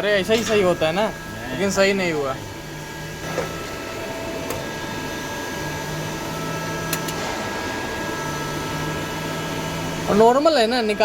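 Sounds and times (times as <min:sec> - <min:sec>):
machine mechanical hum: 0:00.0 - 0:11.0.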